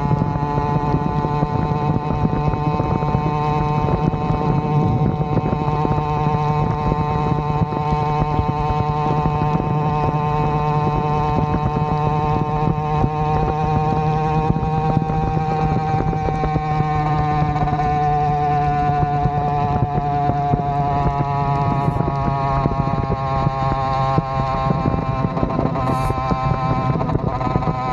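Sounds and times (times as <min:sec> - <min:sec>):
two-stroke bicycle engine running: 0:00.0 - 0:27.9.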